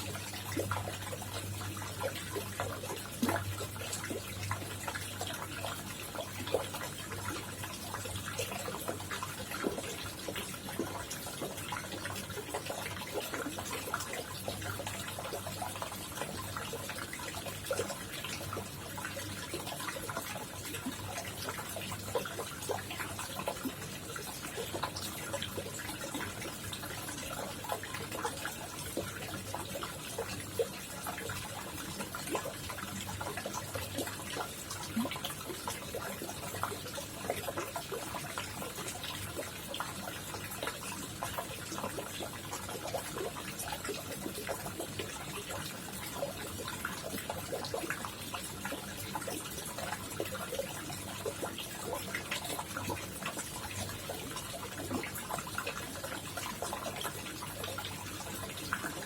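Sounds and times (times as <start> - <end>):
pond water trickling and splashing: 0.0 - 59.0.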